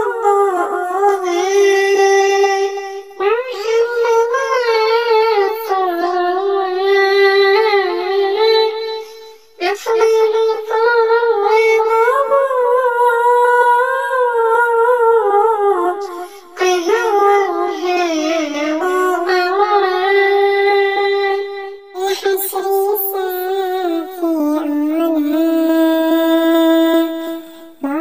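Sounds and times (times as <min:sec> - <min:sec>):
person singing unaccompanied: 0:00.0 - 0:28.0.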